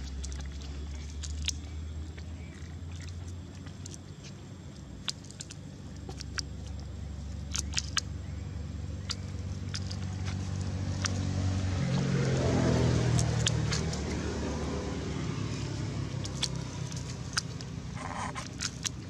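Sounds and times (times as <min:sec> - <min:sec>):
distant engine droning: 0:00.0 - 0:19.0.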